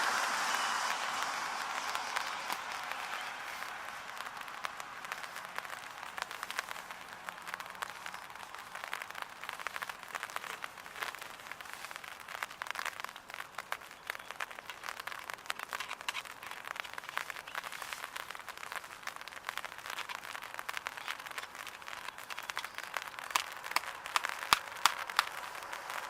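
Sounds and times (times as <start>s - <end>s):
rain drops pattering: 0.0s - 26.0s.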